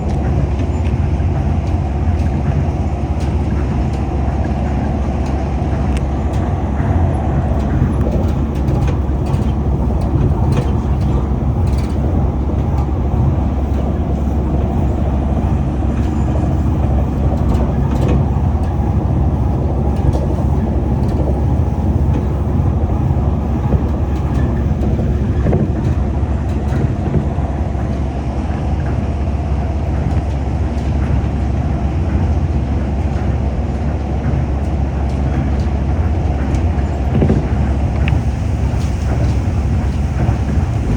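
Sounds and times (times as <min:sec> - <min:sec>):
monorail rumbling inside cabin: 0:00.0 - 0:40.9.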